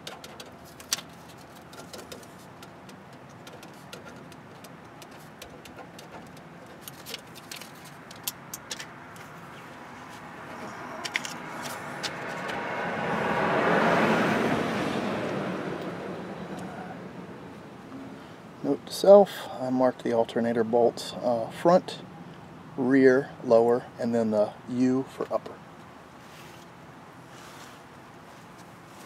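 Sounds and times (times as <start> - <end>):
road vehicle passing: 0.0 - 24.3.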